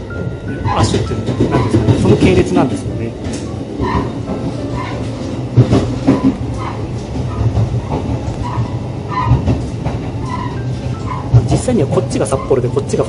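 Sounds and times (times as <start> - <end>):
diesel railcar rumble: 0.0 - 13.0.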